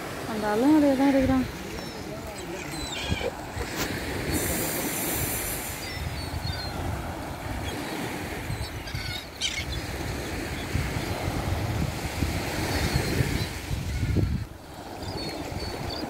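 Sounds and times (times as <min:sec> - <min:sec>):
small waves breaking on sand: 0:00.0 - 0:16.0
wind buffeting microphone: 0:00.0 - 0:16.0.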